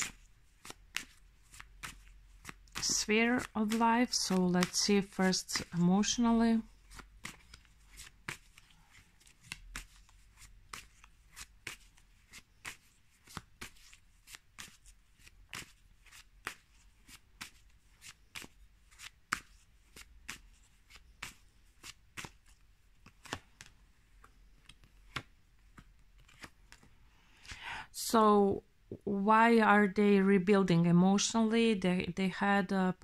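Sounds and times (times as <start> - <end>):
cards being shuffled: 0.0 - 27.6.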